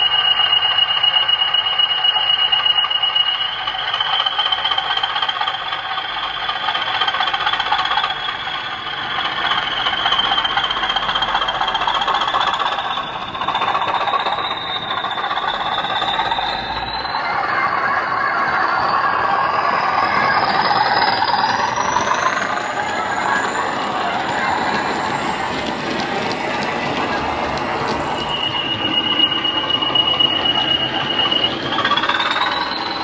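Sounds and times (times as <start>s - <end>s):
diesel locomotive engine through small speakers: 0.0s - 33.0s
high turbocharger whistle: 0.0s - 33.0s.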